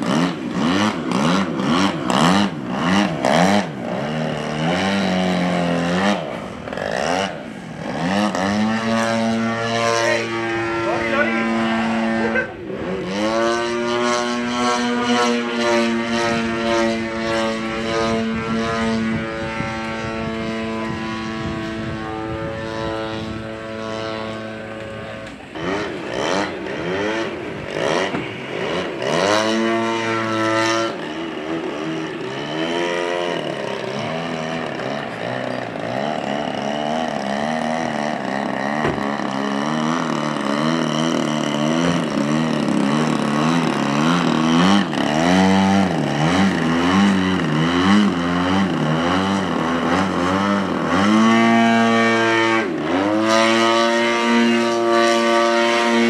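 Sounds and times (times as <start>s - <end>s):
model aircraft engine: 0.0s - 56.0s.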